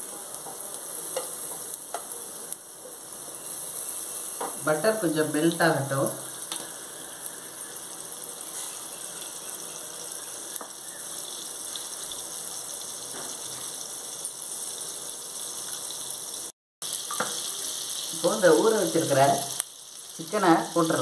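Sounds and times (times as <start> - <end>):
butter sizzling in a frying pan: 0.0 - 21.0.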